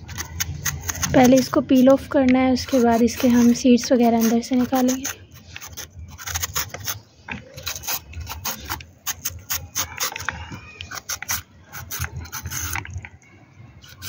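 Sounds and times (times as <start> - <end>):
knife scraping vegetable skin: 0.0 - 13.0.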